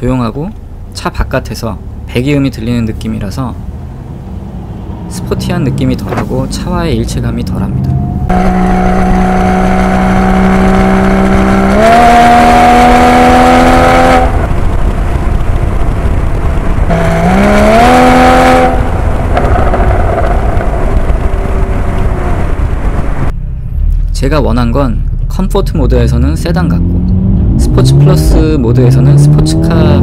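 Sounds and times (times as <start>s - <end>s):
road and tyre noise: 0.0s - 30.0s
car engine revving: 0.6s - 24.0s, 26.1s - 30.0s.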